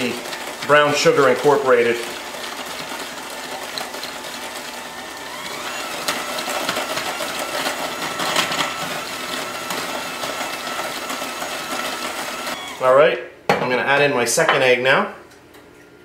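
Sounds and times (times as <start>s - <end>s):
electric hand mixer whine: 0.0s - 13.1s.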